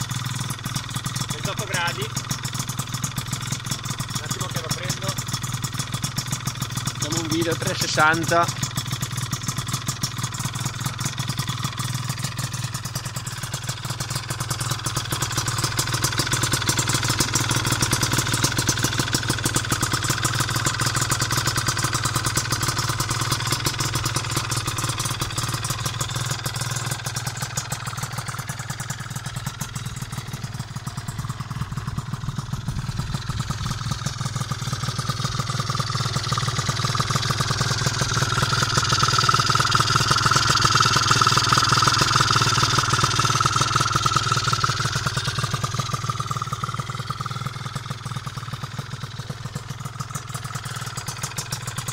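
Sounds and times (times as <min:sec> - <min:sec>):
two-stroke scooter engine idling: 0:00.0 - 0:51.9.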